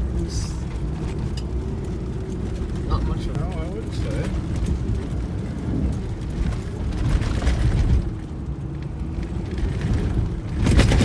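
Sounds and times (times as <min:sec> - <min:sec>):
pickup truck engine rumbling: 0:00.0 - 0:11.0.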